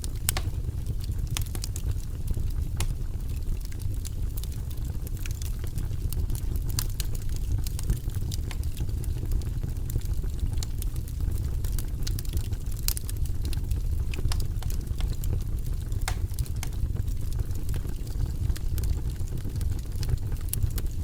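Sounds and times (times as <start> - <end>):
fire popping and snapping: 0.0 - 21.0
fire rumbling: 0.0 - 21.0.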